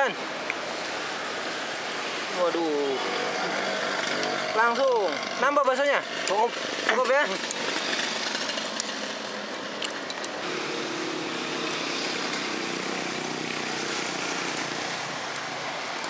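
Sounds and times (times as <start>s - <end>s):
road noise hiss: 0.0s - 16.0s.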